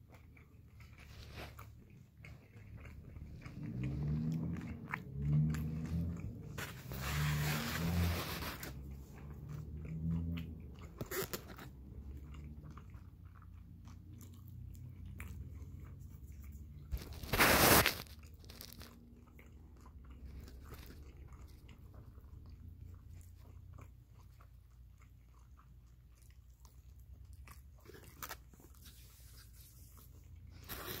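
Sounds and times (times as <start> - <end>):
person chewing and crunching food: 0.0 - 31.0.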